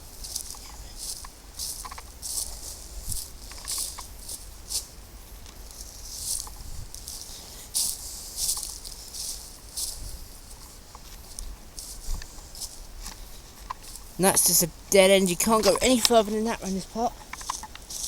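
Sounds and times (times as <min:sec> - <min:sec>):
footsteps in dry leaves: 0:00.0 - 0:18.0.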